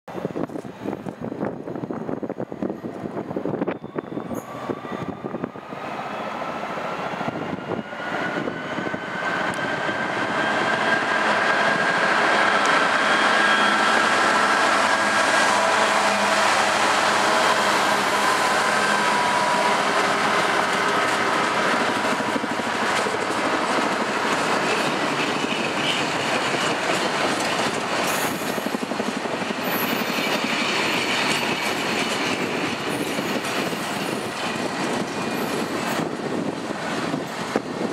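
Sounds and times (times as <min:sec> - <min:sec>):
diesel locomotive engine passing: 0:00.3 - 0:37.9.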